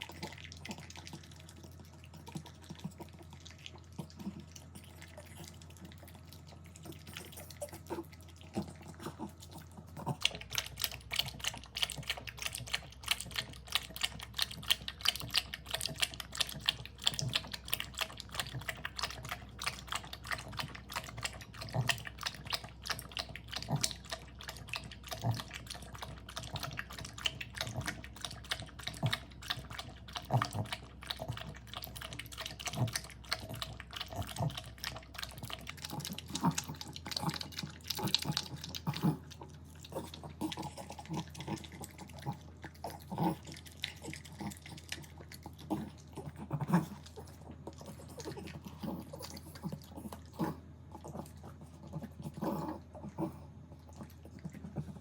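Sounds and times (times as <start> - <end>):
background hum: 0.0 - 55.0
dog chewing and crunching: 0.0 - 55.0.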